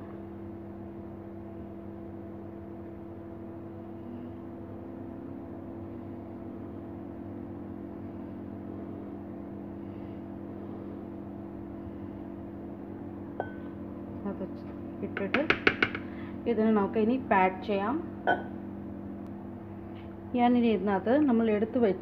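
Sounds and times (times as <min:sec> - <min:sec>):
electrical appliance humming: 0:00.0 - 0:22.0.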